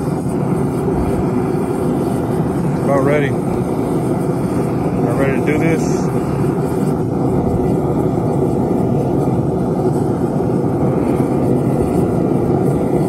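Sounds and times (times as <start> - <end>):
forge burner flame rushing: 0.0 - 13.0.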